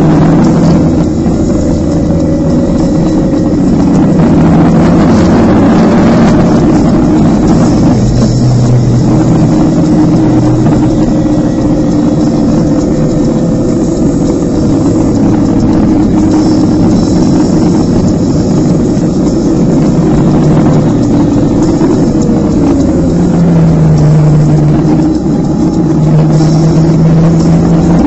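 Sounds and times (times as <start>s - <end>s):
motorcycle engine running: 0.0s - 28.0s
wind rushing over microphone: 0.0s - 28.0s.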